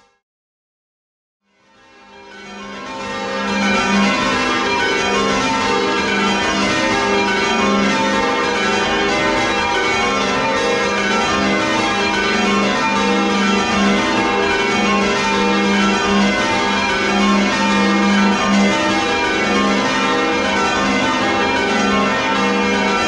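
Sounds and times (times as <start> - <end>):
church bells change ringing: 1.5 - 23.0.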